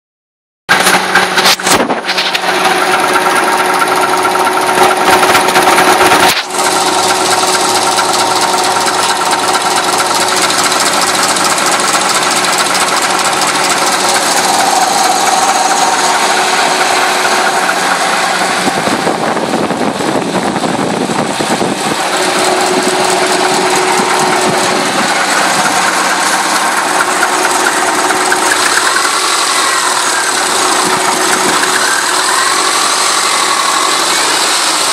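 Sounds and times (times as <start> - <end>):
car engine idling with knock: 0.7 - 34.9.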